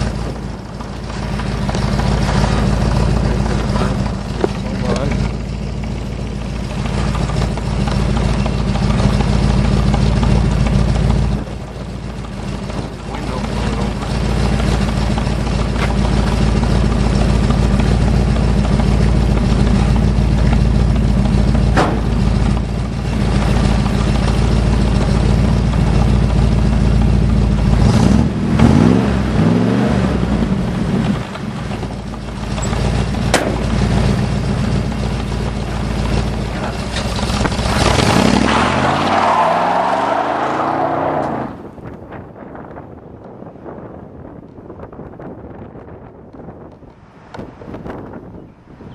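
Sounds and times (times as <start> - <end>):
deep loud engine exhaust note: 0.0 - 46.6.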